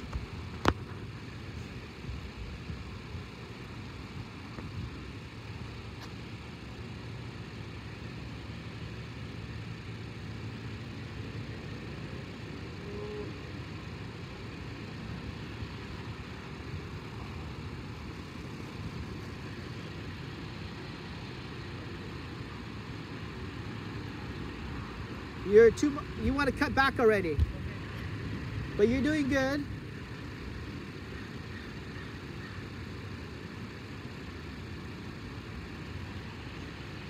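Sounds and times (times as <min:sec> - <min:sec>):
engine rumbling at low speed: 0:00.0 - 0:37.0.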